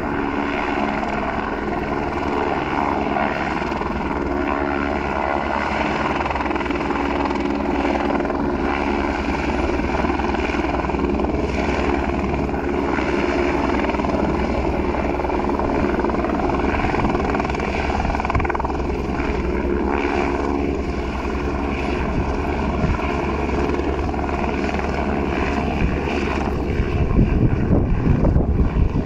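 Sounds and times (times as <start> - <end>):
helicopter rotor and engine whine: 0.0 - 29.0.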